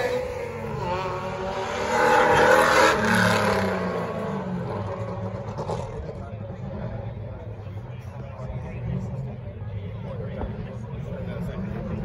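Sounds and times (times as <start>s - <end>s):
racing car engine at full throttle: 0.0s - 12.0s.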